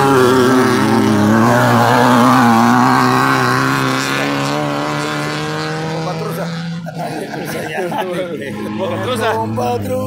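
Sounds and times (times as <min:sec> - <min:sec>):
race buggy engine running hard: 0:00.0 - 0:10.0.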